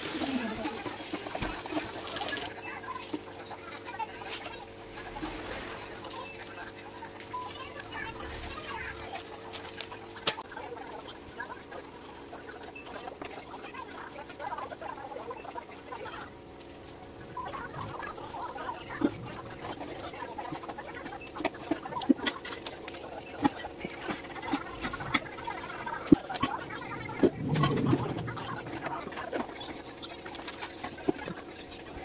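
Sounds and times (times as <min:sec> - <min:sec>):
chickens clucking: 0:06.0 - 0:32.0.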